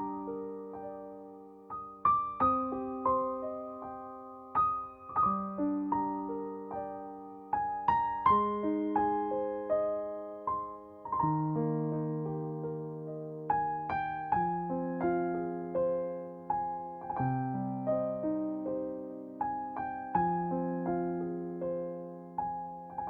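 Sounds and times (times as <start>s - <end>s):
slow gentle solo piano: 0.0s - 23.0s.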